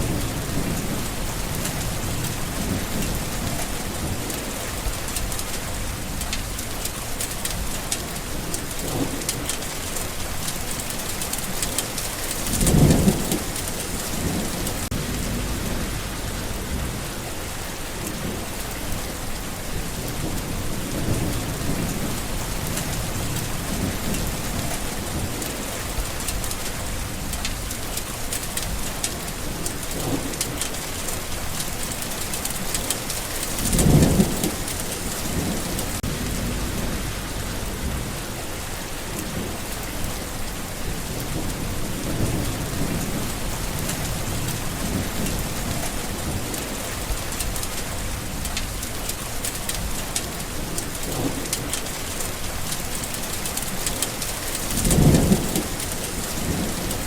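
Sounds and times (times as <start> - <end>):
low rolls of thunder: 0.0 - 6.8, 7.4 - 10.6, 11.5 - 28.0, 28.6 - 31.7, 32.6 - 49.1, 50.6 - 52.8, 54.4 - 57.0
steady rain falling: 0.0 - 57.0.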